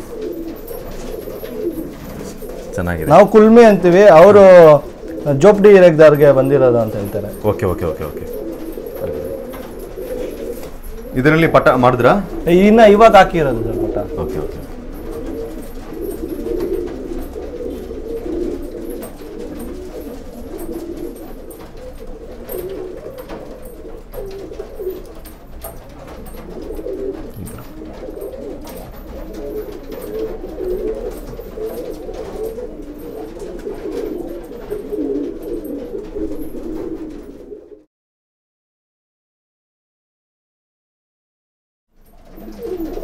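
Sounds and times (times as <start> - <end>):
pigeons cooing: 0.0 - 37.9, 42.0 - 43.0.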